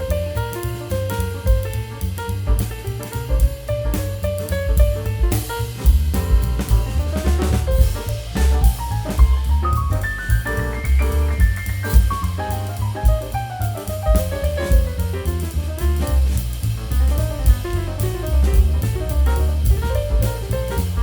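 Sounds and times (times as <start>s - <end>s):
drum kit with cymbals: 0.0s - 21.0s
jazz background music: 0.0s - 21.0s.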